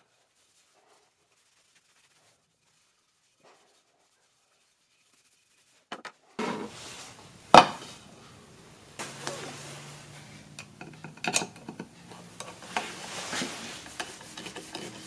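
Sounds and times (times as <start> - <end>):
parts rubbing on wooden surface: 0.3 - 7.2, 9.0 - 15.0.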